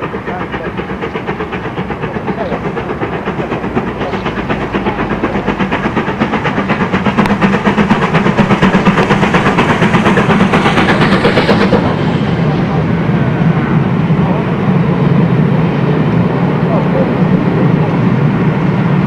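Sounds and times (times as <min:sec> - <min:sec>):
steam locomotive exhaust beats: 0:00.0 - 0:19.0.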